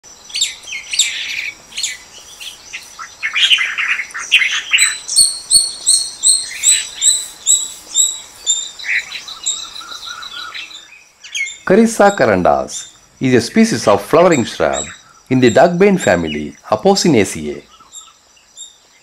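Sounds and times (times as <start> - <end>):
birds chattering: 0.0 - 19.0
high repeated bird notes: 0.5 - 18.2.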